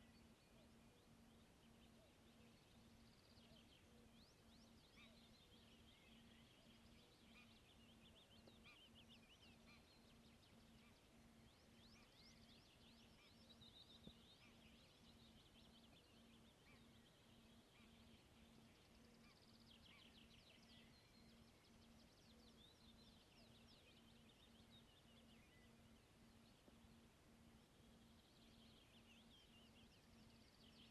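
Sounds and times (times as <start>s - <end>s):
faint birdsong chirps and trills: 0.0s - 30.9s.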